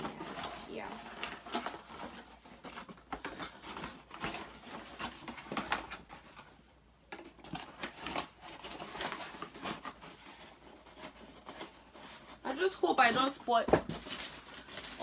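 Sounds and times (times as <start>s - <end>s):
packaging rustling and knocking: 0.0s - 15.0s.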